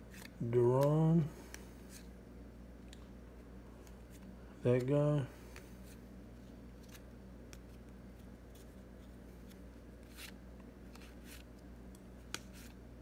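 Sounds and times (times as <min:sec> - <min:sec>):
cards sliding against each other: 0:00.0 - 0:02.2, 0:03.8 - 0:11.6, 0:12.2 - 0:12.8
faint steady hum: 0:00.0 - 0:13.0.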